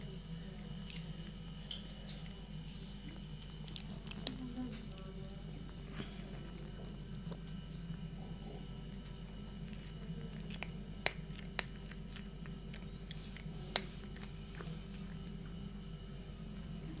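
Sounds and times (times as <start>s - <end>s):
cat crunching dry kibble: 0.6s - 15.6s.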